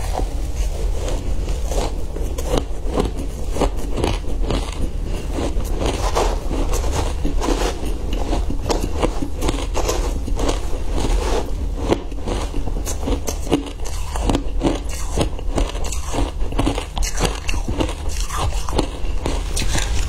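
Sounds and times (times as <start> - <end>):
chewing crunchy ice: 0.0 - 20.0.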